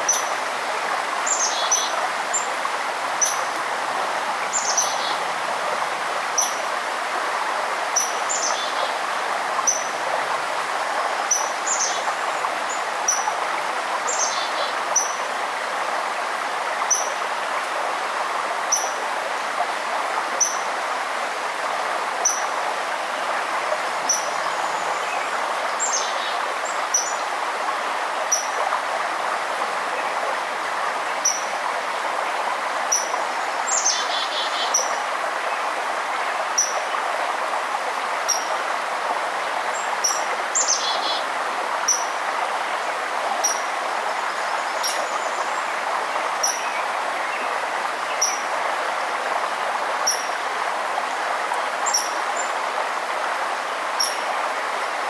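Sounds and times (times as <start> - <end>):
forest stream rushing: 0.0 - 55.0.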